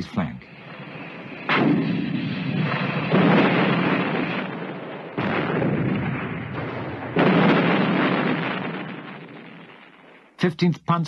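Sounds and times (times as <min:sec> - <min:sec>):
artillery gun booms: 0:01.4 - 0:10.3.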